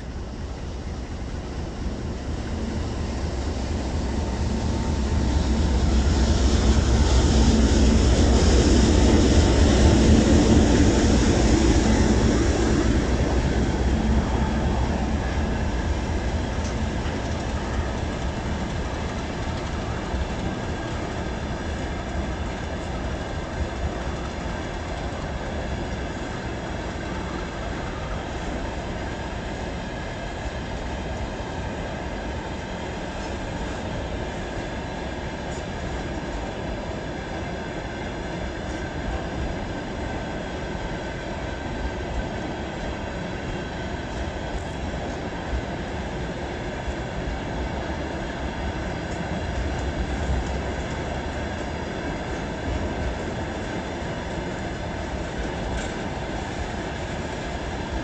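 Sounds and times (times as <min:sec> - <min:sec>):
diesel locomotive passing: 0:00.0 - 0:58.0
train wheels on rails: 0:00.0 - 0:58.0.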